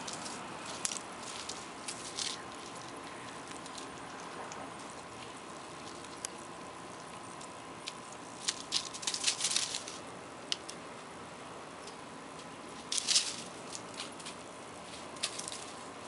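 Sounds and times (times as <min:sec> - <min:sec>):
dry leaves crackling on concrete: 0:00.0 - 0:11.0, 0:11.8 - 0:16.0
faint steady hum: 0:00.0 - 0:16.0.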